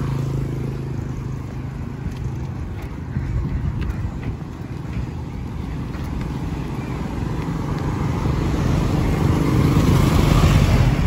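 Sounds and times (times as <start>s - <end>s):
passing vehicle engine and tyres: 0.0s - 11.0s.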